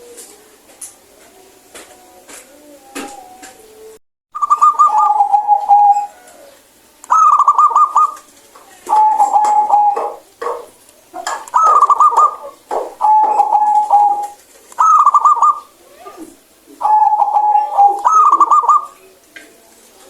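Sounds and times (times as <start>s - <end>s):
dove cooing: 0.0s - 19.3s.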